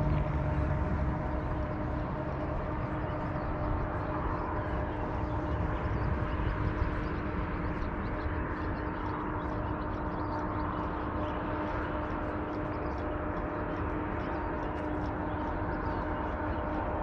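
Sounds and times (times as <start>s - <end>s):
constant low hum: 0.0s - 17.0s
outdoor background rumble: 0.0s - 17.0s.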